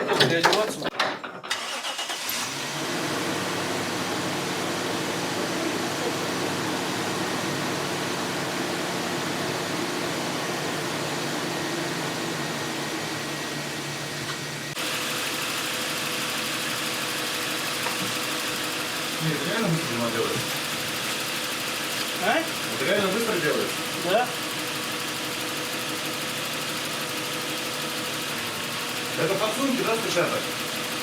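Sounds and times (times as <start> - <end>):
car engine idling: 1.6 - 31.0.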